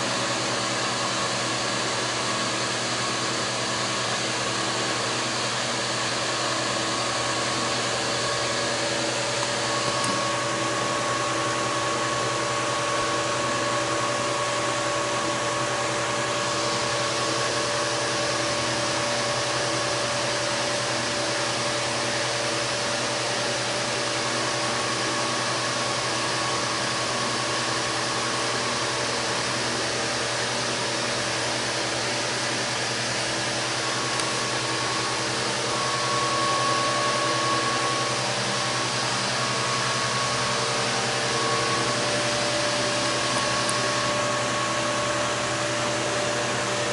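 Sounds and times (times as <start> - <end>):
mechanical whir with hum: 0.0 - 46.9.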